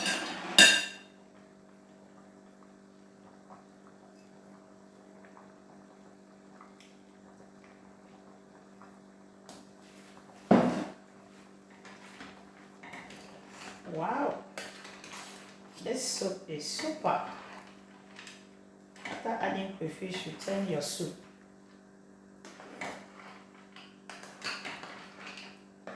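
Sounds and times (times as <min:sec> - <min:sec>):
faint electrical hum: 0:00.0 - 0:25.9.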